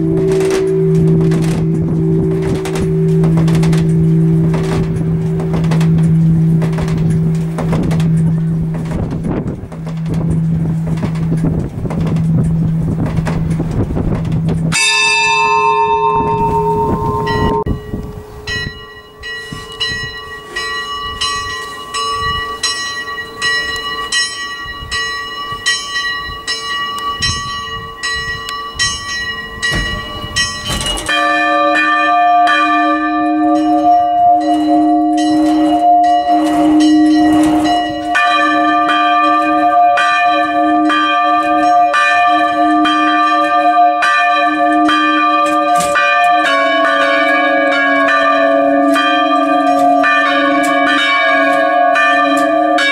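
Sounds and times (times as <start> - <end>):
church bells ringing: 0.0 - 52.9
large low-pitched bell ringing: 0.0 - 52.9.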